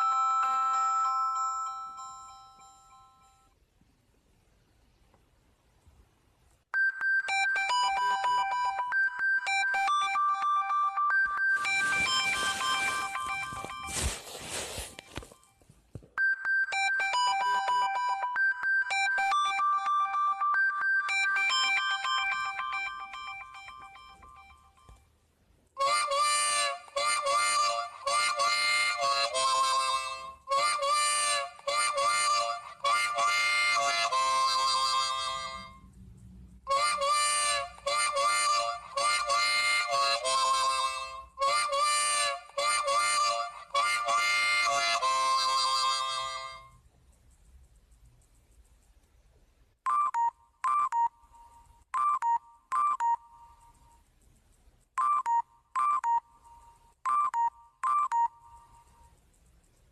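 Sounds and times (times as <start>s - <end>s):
smartphone ringtone melody: 0.0s - 3.6s, 6.8s - 15.6s, 16.2s - 25.0s, 25.8s - 35.8s, 36.7s - 46.7s, 49.9s - 54.0s, 55.0s - 59.2s.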